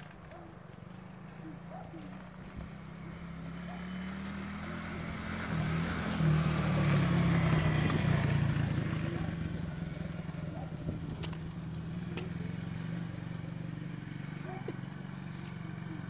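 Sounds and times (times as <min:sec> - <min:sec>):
small quad engine running: 0:00.0 - 0:16.0.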